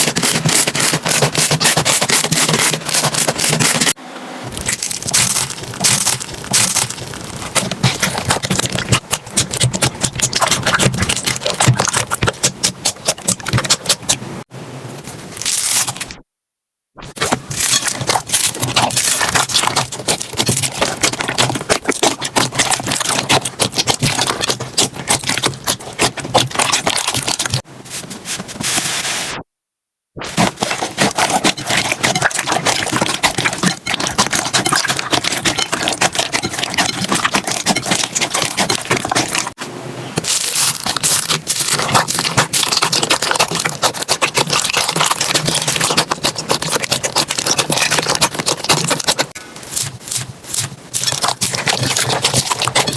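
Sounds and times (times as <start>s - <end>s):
slime squeezed crackling: 0.0s - 14.2s, 15.4s - 16.0s, 17.2s - 27.6s, 30.4s - 39.6s, 40.2s - 52.9s.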